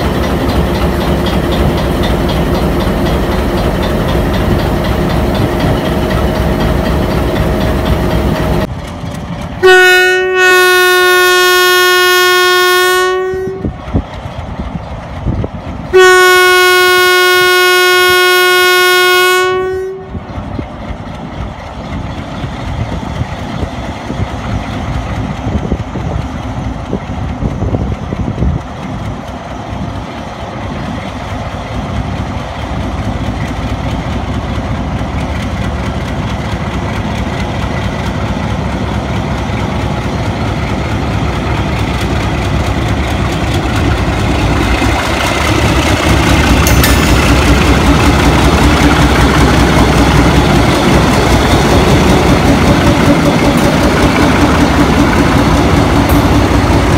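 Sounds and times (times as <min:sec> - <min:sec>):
diesel locomotive engine running: 0:00.0 - 0:56.9.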